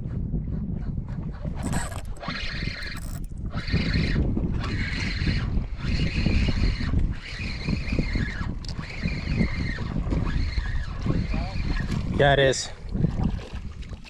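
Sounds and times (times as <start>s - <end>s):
wind buffeting the microphone: 0.0s - 14.0s.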